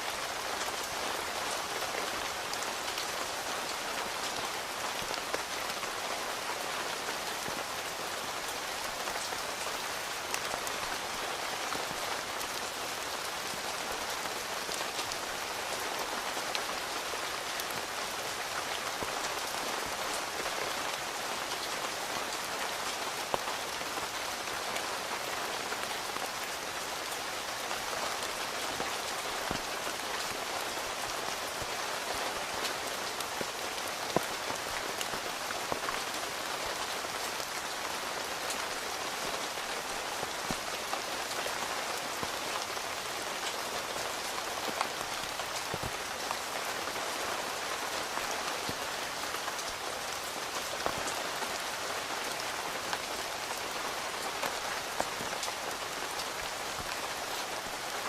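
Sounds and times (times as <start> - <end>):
rain on a tent: 0.0 - 58.0.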